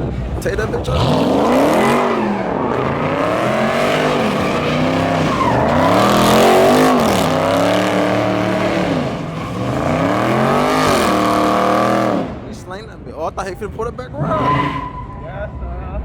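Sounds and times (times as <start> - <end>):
car engine revving: 0.0 - 12.8, 14.0 - 15.6
tires skidding: 0.0 - 12.8, 14.1 - 16.0.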